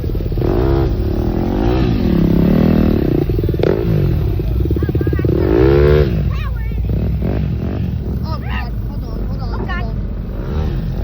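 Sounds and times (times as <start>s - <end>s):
engine revving over idle: 0.0s - 11.0s.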